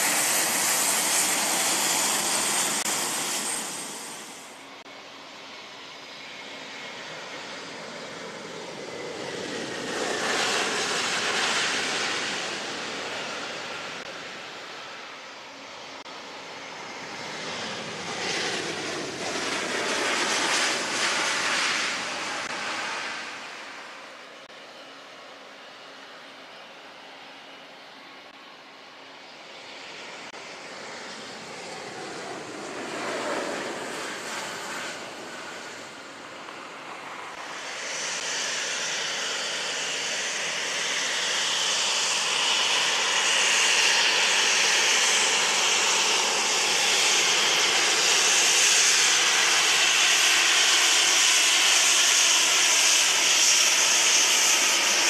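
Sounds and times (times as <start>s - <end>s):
jet airliner rolling past: 0.0s - 55.0s.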